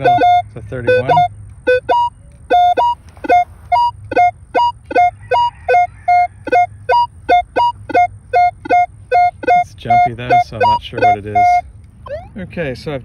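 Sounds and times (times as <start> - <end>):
metal detector beeping: 0.0 - 12.3.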